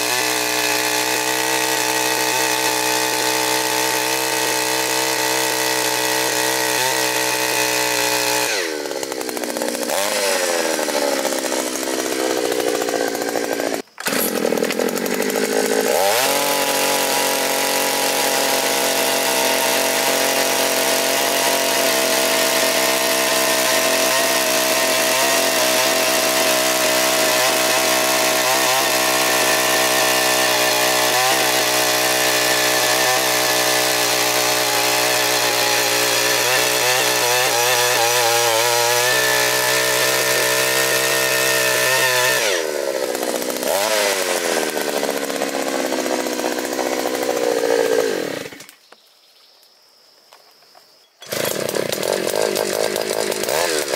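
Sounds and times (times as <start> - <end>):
earth auger petrol engine: 0.0 - 48.7, 51.2 - 53.9.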